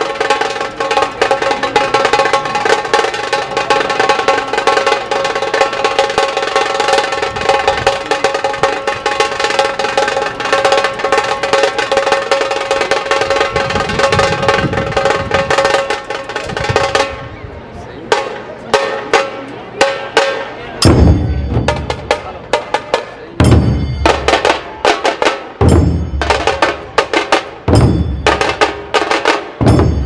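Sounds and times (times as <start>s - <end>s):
dhol drum beats: 0.0s - 17.1s, 18.1s - 30.0s
fast tasha drum strokes: 0.0s - 17.3s, 18.1s - 30.0s.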